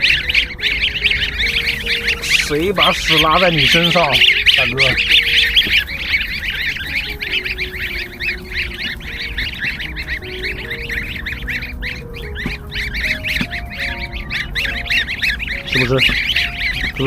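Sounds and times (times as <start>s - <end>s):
goslings peeping: 0.0s - 17.0s.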